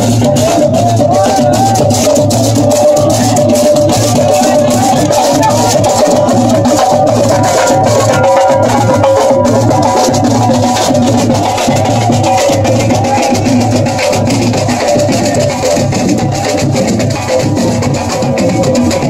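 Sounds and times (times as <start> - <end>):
drums marching beat: 0.0 - 19.0
marching band playing: 0.0 - 19.0.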